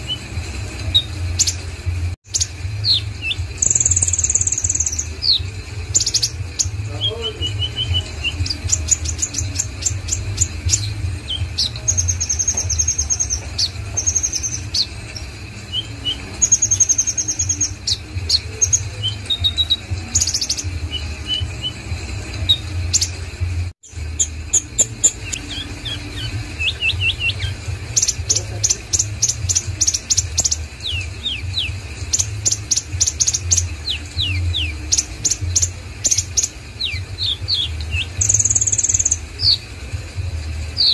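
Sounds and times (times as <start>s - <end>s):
sunbird singing high trills: 0.0s - 40.9s.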